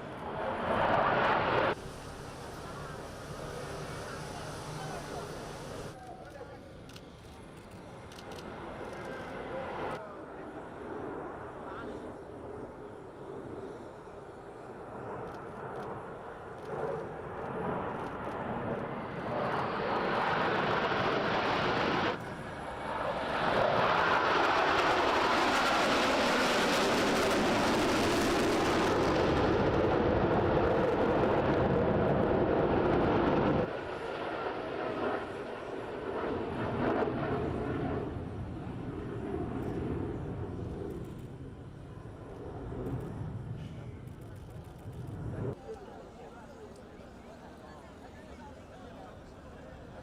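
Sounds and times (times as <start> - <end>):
jet fighter engines roaring overhead: 0.0 - 50.0.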